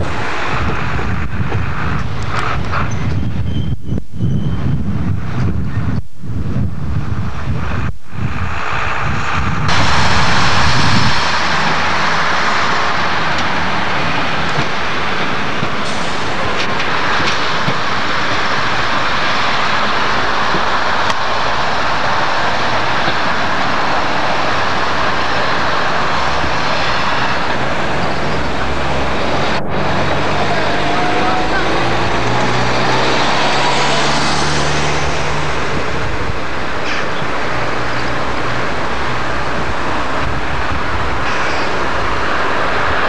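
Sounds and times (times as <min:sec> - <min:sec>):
diesel train engine drone: 0:00.0 - 0:43.0
wind noise on microphone: 0:00.0 - 0:43.0.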